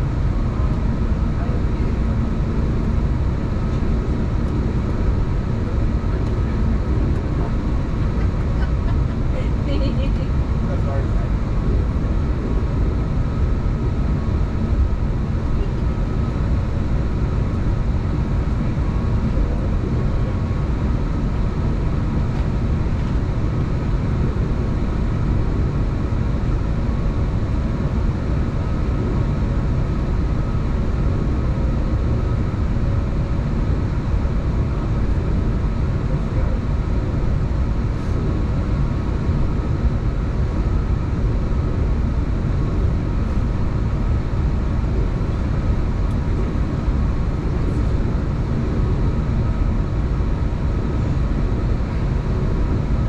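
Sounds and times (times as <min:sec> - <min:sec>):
airliner cabin low rumble: 0:00.0 - 0:53.0
faint steady whine: 0:00.0 - 0:53.0.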